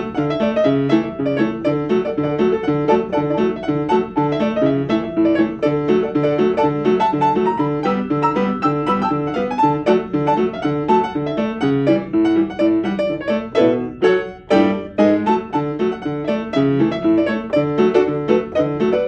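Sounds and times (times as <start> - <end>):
solo piano playing: 0.0 - 19.0.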